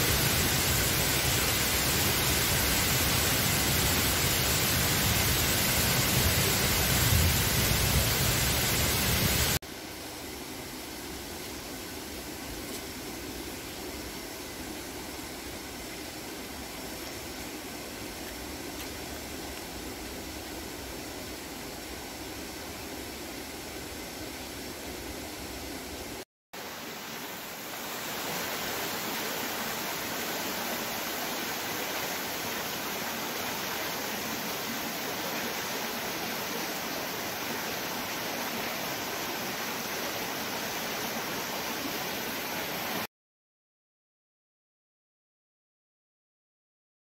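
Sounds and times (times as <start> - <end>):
flowing water rushing: 0.0 - 43.1.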